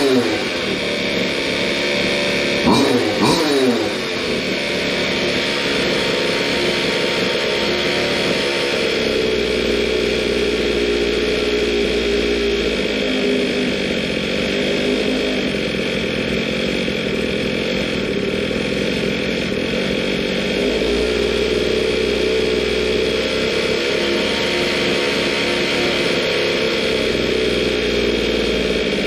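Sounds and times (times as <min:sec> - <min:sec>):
two-stroke engine running: 0:00.0 - 0:29.0.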